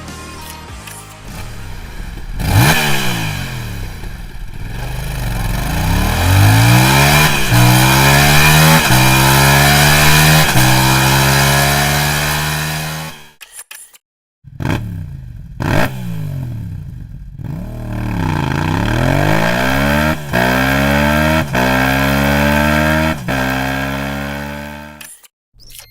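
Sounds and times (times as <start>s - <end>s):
motorcycle engine revving: 1.2s - 13.4s, 14.5s - 25.2s.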